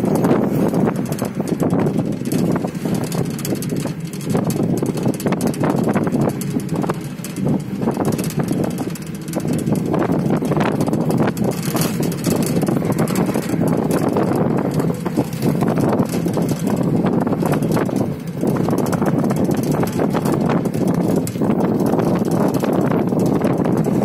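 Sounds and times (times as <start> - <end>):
tyres and engine rumble: 0.0 - 24.0
wind buffeting microphone: 0.0 - 24.0.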